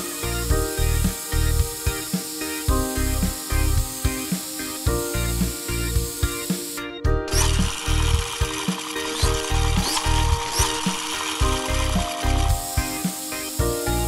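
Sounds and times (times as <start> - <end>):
background music with steady beat: 0.0 - 14.0
spray paint hissing: 0.0 - 14.0.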